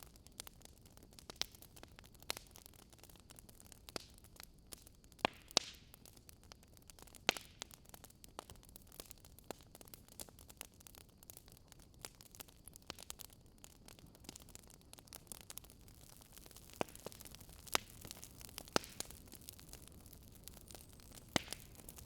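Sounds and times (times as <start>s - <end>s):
burning logs snapping and popping: 0.0s - 22.0s
faint steady hiss: 0.0s - 22.0s
wood fire crackling: 0.0s - 22.0s.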